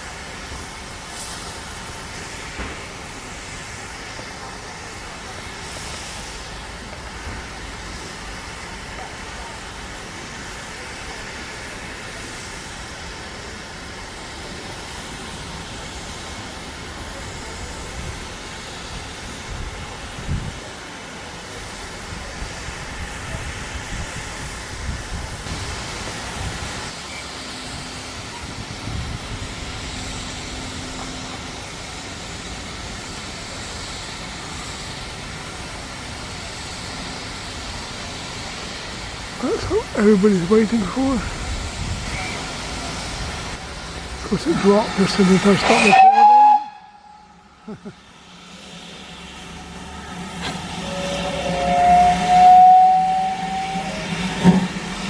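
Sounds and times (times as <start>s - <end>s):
steam hissing: 0.0s - 55.0s.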